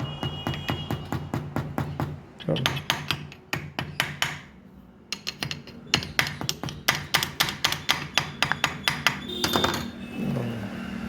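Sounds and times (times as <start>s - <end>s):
sharp metal taps: 0.0s - 9.9s.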